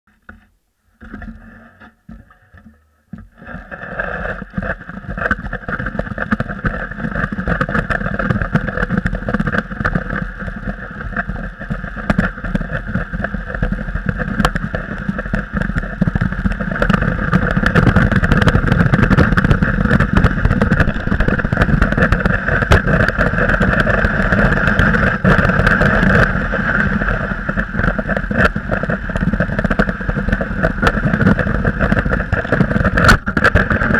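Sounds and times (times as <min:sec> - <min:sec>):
sled runners scraping on snow: 0:03.3 - 0:33.9.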